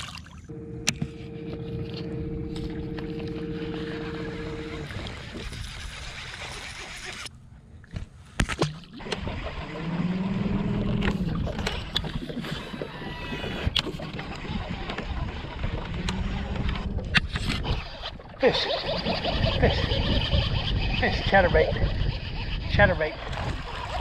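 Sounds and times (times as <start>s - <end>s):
water noise: 0.0s - 24.0s
electric motor humming: 0.5s - 7.3s, 9.0s - 23.2s
wind noise: 1.9s - 7.0s, 9.0s - 24.0s.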